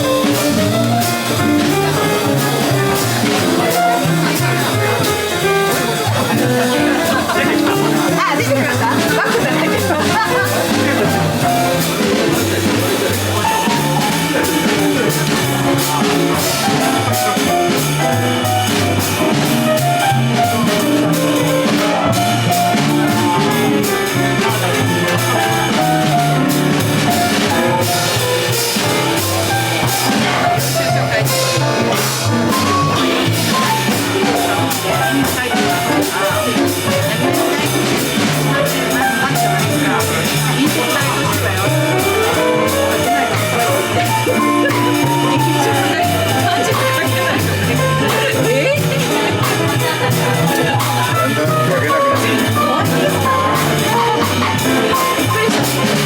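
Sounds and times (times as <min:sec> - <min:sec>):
bass line: 0:00.0 - 0:56.0
drum kit with cymbals: 0:00.0 - 0:56.0
jazz melody lines: 0:00.0 - 0:56.0.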